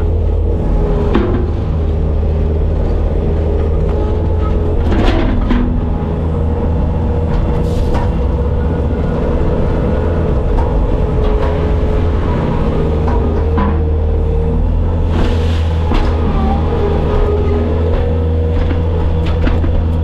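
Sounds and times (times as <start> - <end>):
diesel engine running: 0.0 - 20.0
mechanical whine: 0.0 - 20.0.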